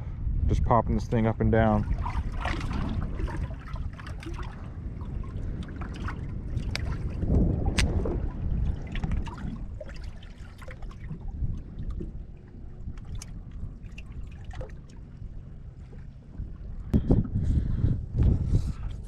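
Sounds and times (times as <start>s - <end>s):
wind rumbling on microphone: 0.0s - 19.0s
small waves lapping against boat: 1.2s - 17.2s.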